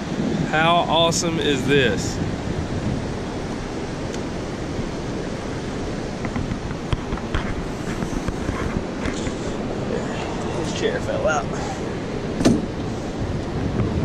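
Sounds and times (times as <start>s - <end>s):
wind noise on microphone: 0.0s - 10.0s, 11.5s - 14.0s
ocean surf rushing: 0.0s - 14.0s.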